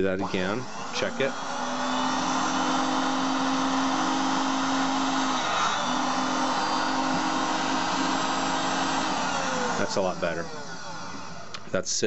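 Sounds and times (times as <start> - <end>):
motor whirring: 0.0 - 11.9.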